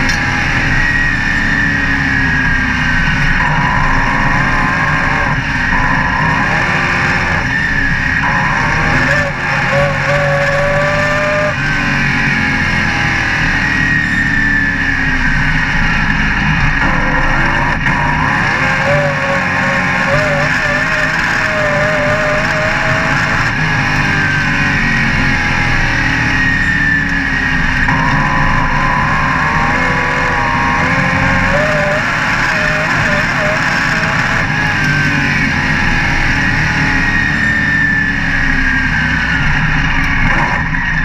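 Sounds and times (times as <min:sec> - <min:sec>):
race car engine: 0:00.0 - 0:41.0.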